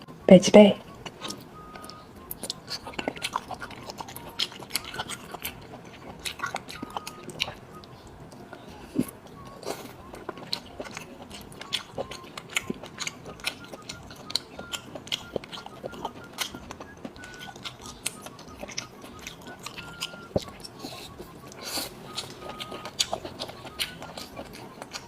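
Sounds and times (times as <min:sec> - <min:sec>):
crunchy chewing: 0:00.8 - 0:25.0.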